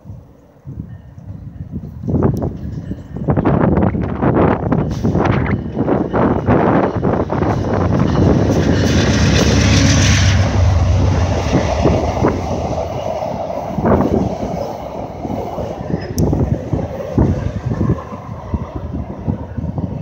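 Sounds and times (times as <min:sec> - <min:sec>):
locomotive engine drone: 0:00.0 - 0:20.0
wind buffeting microphone: 0:00.0 - 0:20.0.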